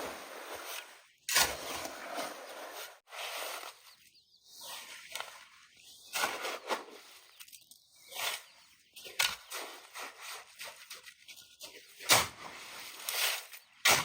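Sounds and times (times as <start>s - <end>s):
scraping and rustling strokes: 0.0s - 13.7s.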